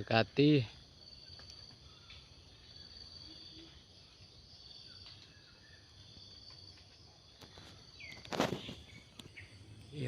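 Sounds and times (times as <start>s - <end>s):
faint bird chirps: 0.0s - 10.0s
insects chirring: 0.0s - 10.0s.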